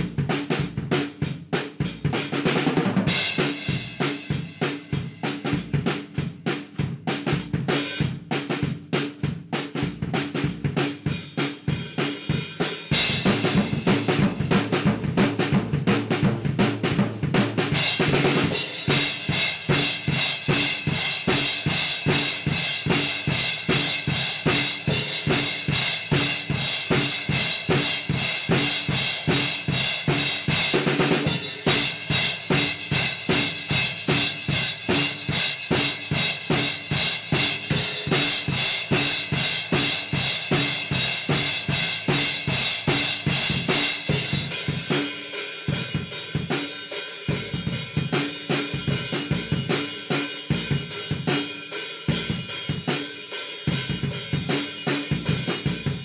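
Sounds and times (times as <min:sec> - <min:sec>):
drum kit rock groove: 0:00.0 - 0:56.0.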